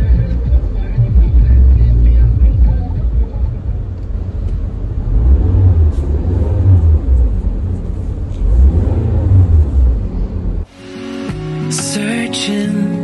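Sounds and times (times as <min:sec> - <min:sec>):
car engine revving: 0:00.0 - 0:11.3.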